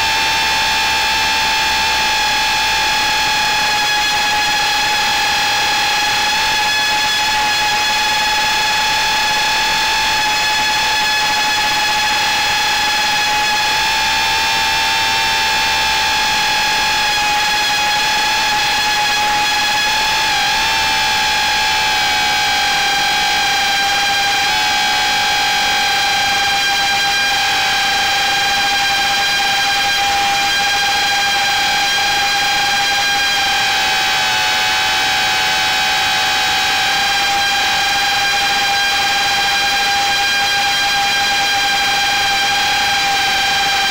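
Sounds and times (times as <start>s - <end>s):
drone motors whining: 0.0s - 43.9s.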